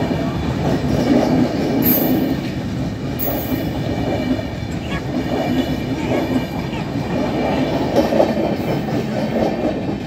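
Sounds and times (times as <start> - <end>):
train wheels running on rails: 0.0 - 10.0.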